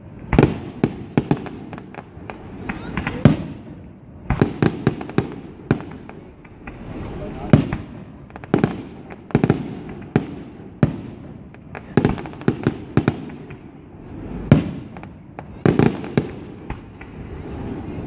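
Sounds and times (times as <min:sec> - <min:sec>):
fireworks bangs: 0:00.1 - 0:18.0.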